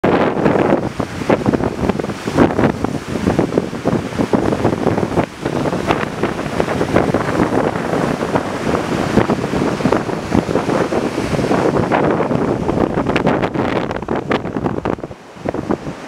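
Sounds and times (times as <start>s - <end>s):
waves breaking on beach: 0.0s - 16.0s
wind buffeting microphone: 0.0s - 16.0s.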